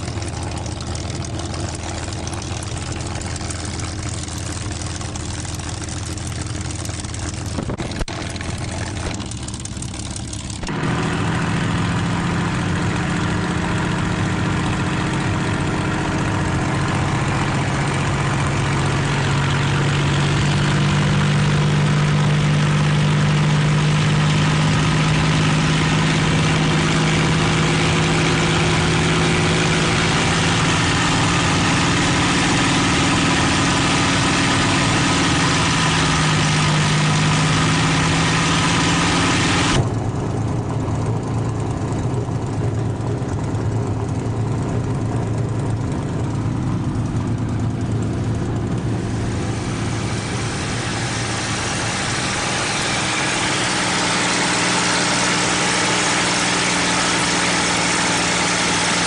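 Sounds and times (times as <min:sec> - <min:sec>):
aircraft engine running: 0:00.0 - 0:59.0.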